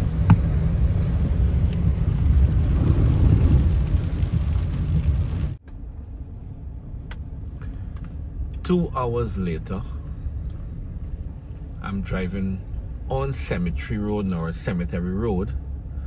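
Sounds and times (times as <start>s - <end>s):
low hum: 0.0s - 16.0s
truck engine rumble from cab: 0.0s - 16.0s.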